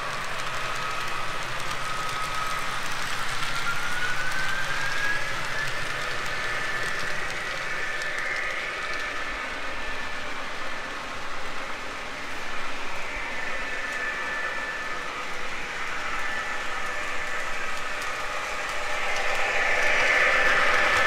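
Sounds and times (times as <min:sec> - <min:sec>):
model train wheels rolling on track: 0:00.0 - 0:21.0
thin motor whine: 0:00.0 - 0:21.0.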